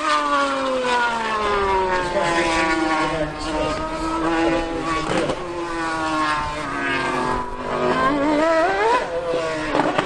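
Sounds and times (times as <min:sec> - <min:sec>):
racing engine revving: 0:00.0 - 0:10.0.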